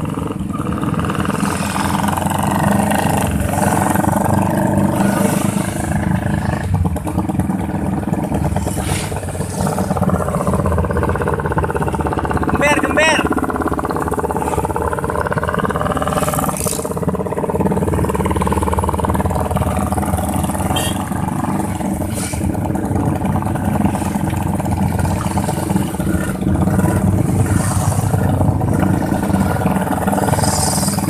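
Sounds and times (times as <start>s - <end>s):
loud motorcycle engine running: 0.0s - 31.0s.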